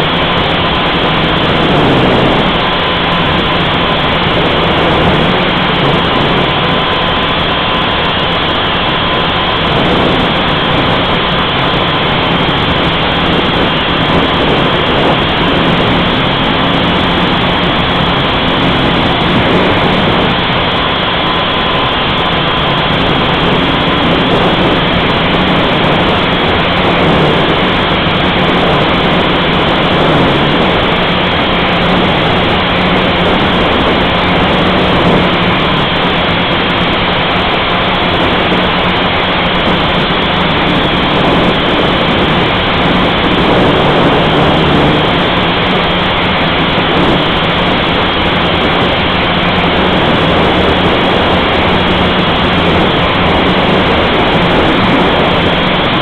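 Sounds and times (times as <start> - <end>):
quadcopter propellers whirring: 0.0 - 56.0
wind: 0.0 - 56.0.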